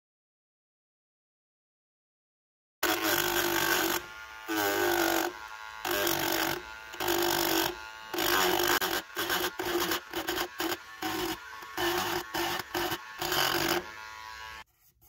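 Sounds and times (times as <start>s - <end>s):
rotary tool grinding metal: 2.8s - 15.0s.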